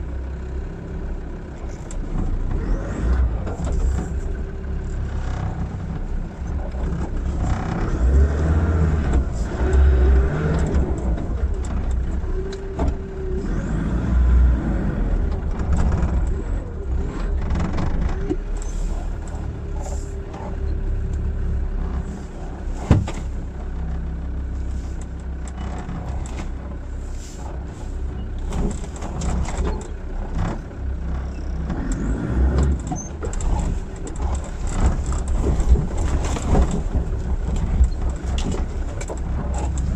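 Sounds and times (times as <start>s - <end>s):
diesel engine running: 0.0s - 39.9s
body and suspension rattles: 1.6s - 14.3s, 15.0s - 39.9s.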